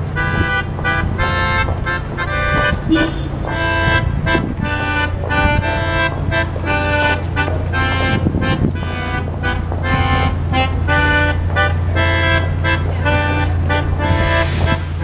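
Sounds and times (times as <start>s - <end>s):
melodica melody: 0.0s - 15.0s.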